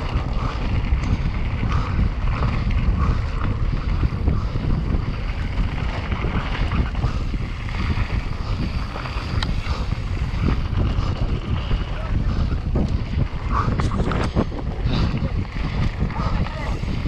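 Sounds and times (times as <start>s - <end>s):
tyres rattling on rough ground: 0.0s - 17.0s
wind rush on microphone: 0.0s - 17.0s.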